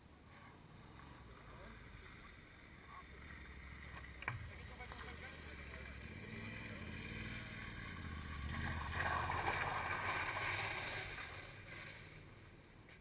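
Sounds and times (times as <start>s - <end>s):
low steady rumble: 0.0s - 12.9s
motorcycle passing: 0.4s - 12.7s.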